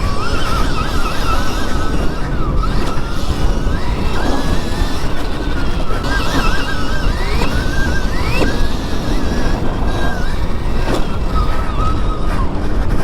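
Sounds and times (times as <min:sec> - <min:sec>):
electric motorbike motor whining: 0:00.0 - 0:13.0
wind buffeting microphone: 0:00.0 - 0:13.0.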